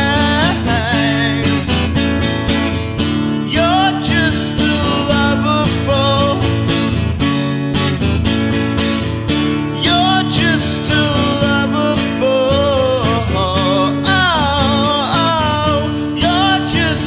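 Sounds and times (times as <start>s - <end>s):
wordless singing with vibrato: 0.0s - 2.5s, 3.1s - 7.0s, 9.5s - 17.0s
acoustic guitar strumming: 0.0s - 17.0s.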